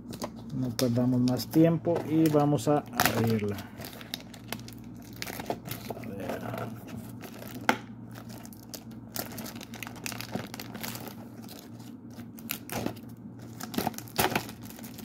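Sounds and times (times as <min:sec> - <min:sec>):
plastic wrap crinkling and tearing: 0:00.0 - 0:15.0.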